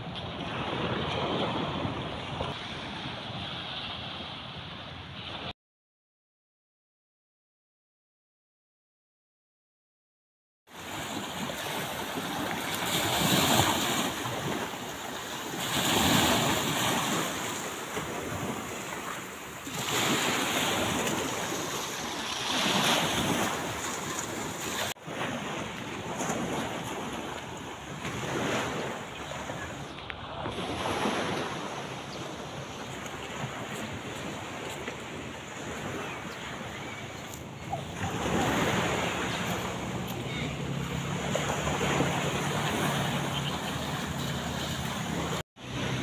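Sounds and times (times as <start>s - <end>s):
sea waves washing on shore: 0.0s - 5.5s, 10.7s - 46.0s.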